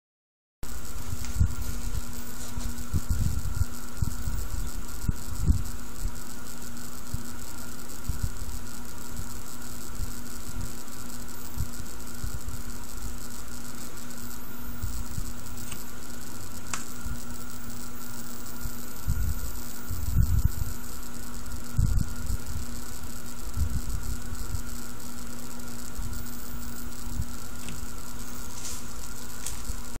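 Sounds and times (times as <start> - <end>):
electrical hum with thin tones: 0.6 - 30.0.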